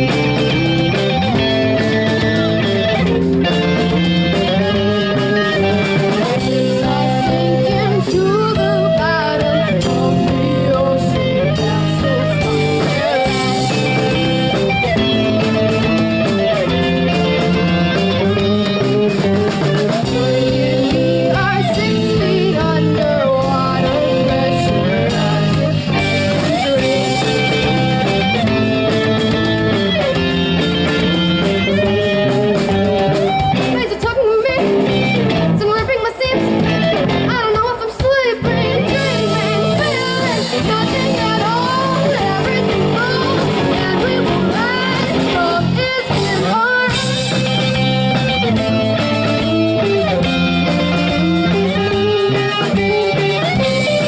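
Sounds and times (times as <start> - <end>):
lead singer singing: 0.0 - 30.2, 31.4 - 48.5
drum kit: 0.0 - 54.0
electric guitars: 0.0 - 54.0.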